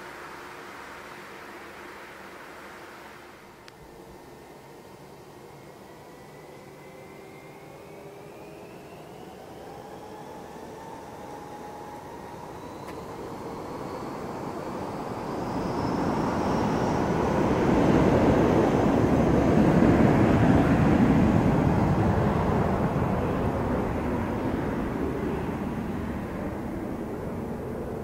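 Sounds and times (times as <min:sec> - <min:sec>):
faint high whine: 0:00.0 - 0:28.0
jet airliner taking off: 0:00.0 - 0:28.0.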